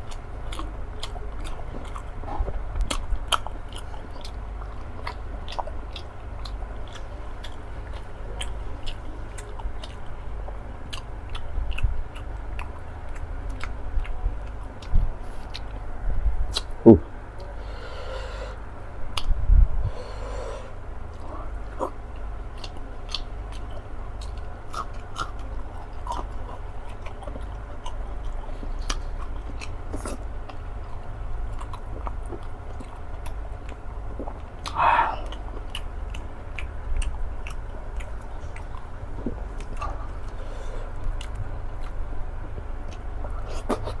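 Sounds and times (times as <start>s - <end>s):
close-up wet chewing: 0.0s - 44.0s.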